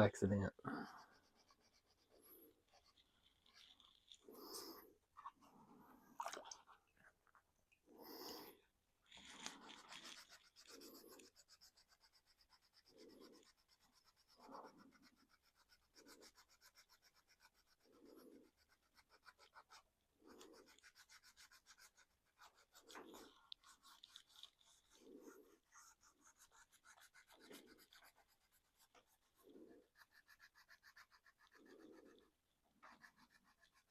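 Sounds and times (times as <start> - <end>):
scratchy rubbing on plastic: 0.9 - 5.6, 9.1 - 33.9.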